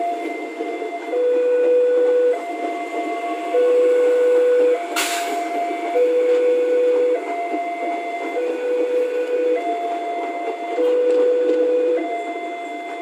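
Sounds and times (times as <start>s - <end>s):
electric train passing: 0.0s - 13.0s
two-tone crossing alarm: 0.0s - 13.0s.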